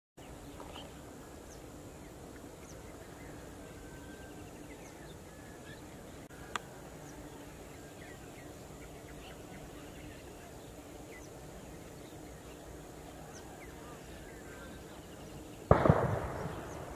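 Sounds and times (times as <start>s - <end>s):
steady low background noise: 0.2s - 16.9s.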